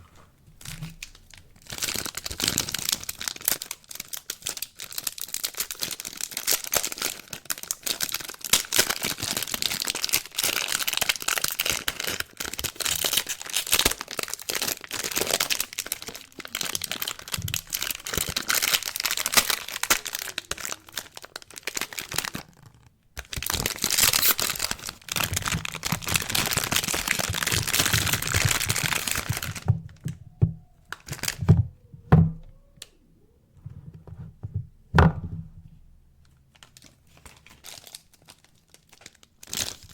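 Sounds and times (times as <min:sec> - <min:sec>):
packaging crinkling and tearing: 0:00.6 - 0:31.5, 0:36.5 - 0:39.9.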